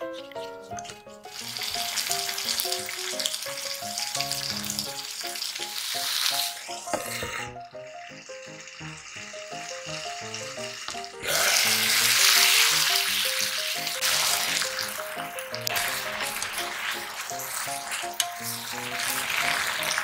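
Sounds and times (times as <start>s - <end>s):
chicken sizzling in oil: 1.2s - 20.0s.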